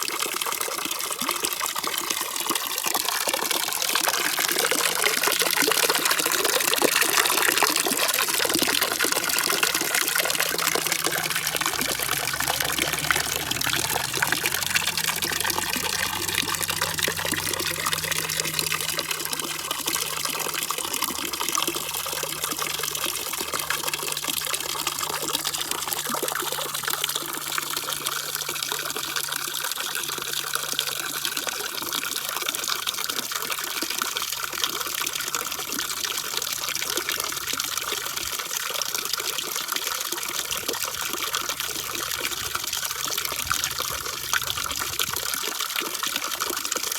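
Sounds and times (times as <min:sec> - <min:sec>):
running splashing water: 0:00.0 - 0:46.9.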